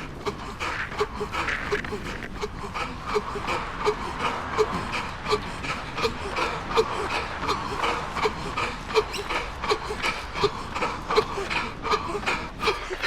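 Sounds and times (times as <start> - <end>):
runner panting heavily: 0.0 - 13.0.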